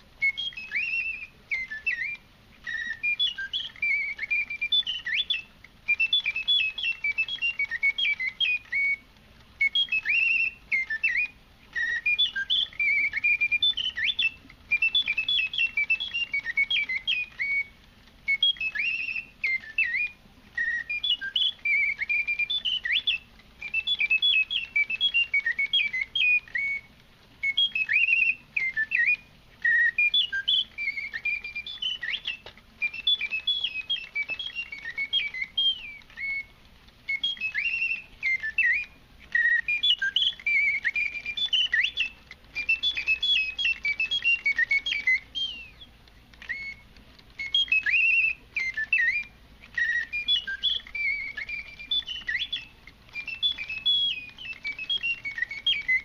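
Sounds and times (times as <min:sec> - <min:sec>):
mechanical birdsong whistle: 0:00.0 - 0:56.0.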